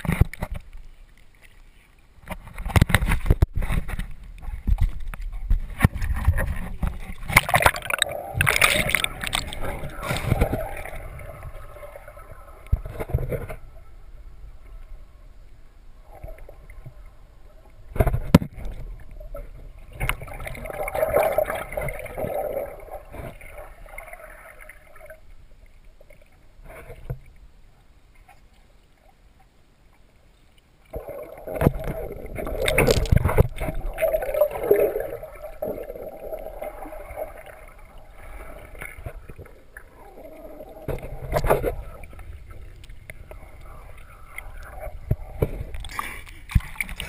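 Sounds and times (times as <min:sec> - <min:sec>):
muffled underwater water noise: 0:00.0 - 0:47.0.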